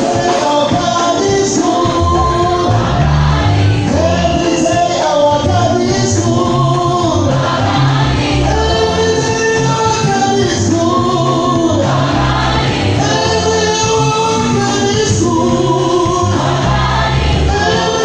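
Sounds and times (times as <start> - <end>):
children's choir singing gospel: 0.0 - 18.0
low bass line: 2.0 - 4.5, 5.4 - 17.8.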